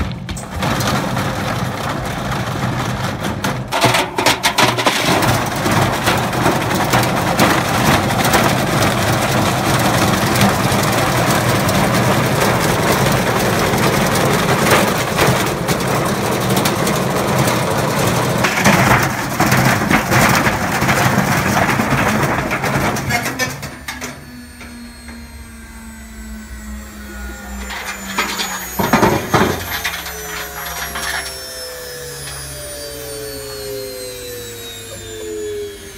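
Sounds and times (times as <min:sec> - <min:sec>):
washing machine rumbling: 0:00.4 - 0:35.9.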